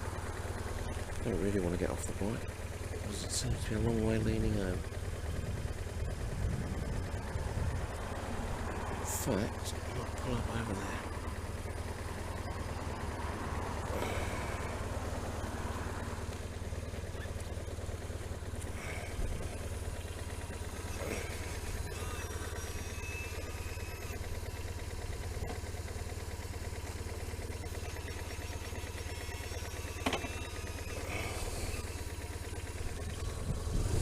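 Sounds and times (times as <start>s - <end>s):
motorcycle engine running at low revs: 0.0s - 34.0s.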